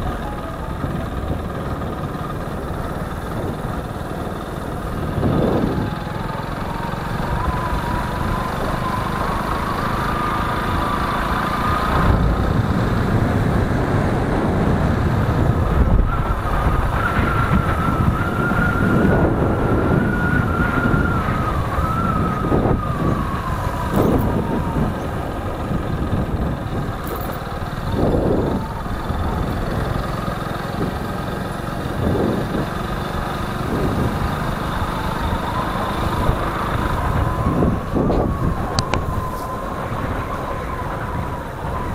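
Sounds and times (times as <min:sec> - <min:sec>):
motorcycle engine and road rumble: 0:00.0 - 0:41.9
rising engine whine: 0:00.0 - 0:41.9.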